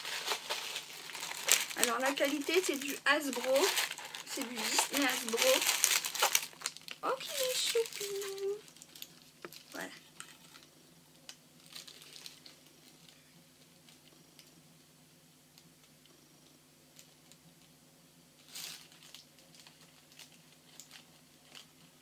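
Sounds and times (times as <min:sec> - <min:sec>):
crinkly packaging rustle: 0:00.0 - 0:14.5, 0:18.4 - 0:22.0
faint room hum: 0:00.0 - 0:22.0.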